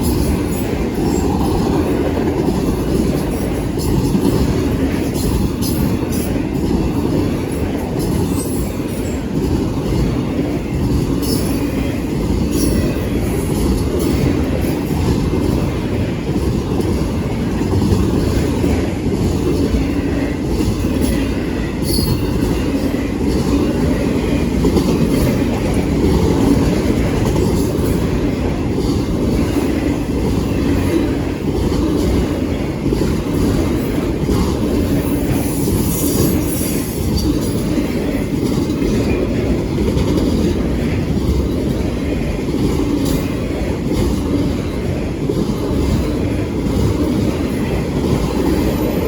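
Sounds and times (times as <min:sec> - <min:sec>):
freight train rumbling on rails: 0:00.0 - 0:49.0.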